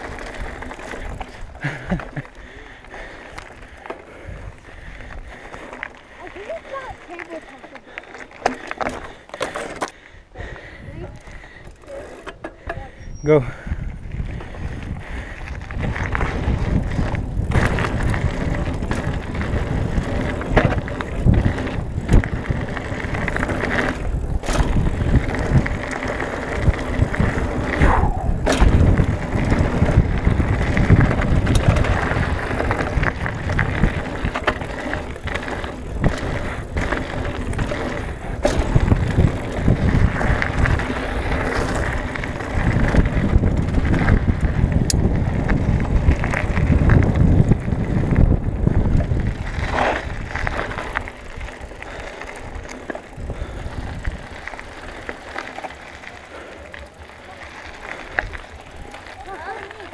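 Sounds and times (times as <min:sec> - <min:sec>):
bike rattling over bumps: 0:00.0 - 0:59.9
bike tyres rolling on gravel: 0:00.0 - 0:59.9.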